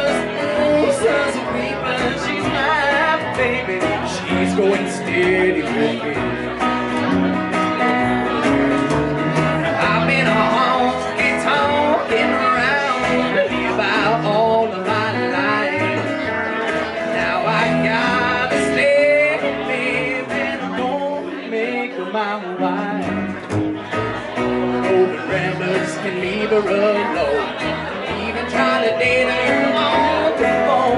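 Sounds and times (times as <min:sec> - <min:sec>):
man singing: 0:00.0 - 0:07.0, 0:09.6 - 0:23.5, 0:24.3 - 0:30.9
acoustic guitar: 0:00.0 - 0:30.9
electric guitar: 0:00.0 - 0:30.9
upright double bass: 0:00.0 - 0:30.9.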